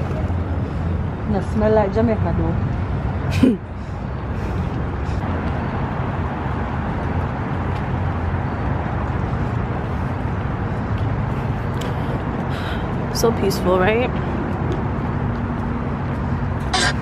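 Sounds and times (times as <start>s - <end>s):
continuous low rumble: 0.0s - 17.0s.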